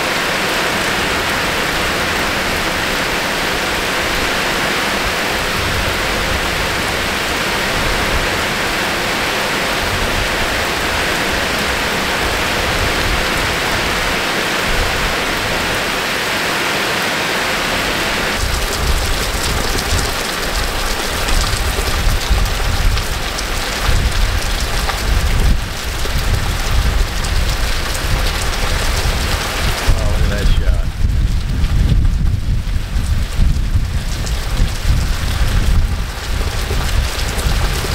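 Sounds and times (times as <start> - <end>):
heavy rain on pavement: 0.0 - 37.9.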